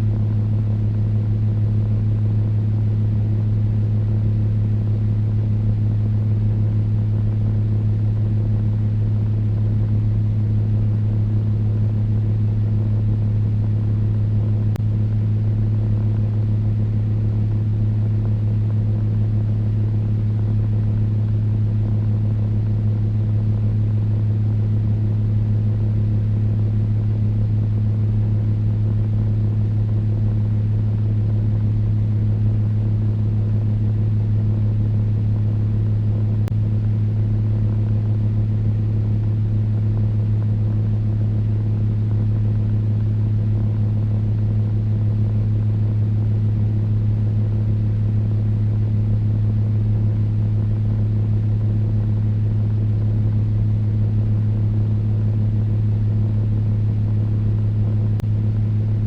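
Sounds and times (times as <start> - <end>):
electric fan running: 0.0 - 59.0.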